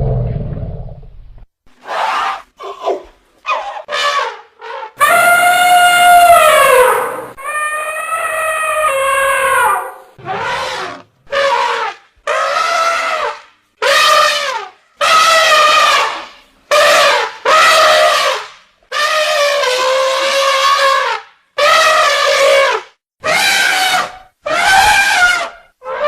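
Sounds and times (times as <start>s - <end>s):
elephant trumpeting: 1.8s - 26.0s.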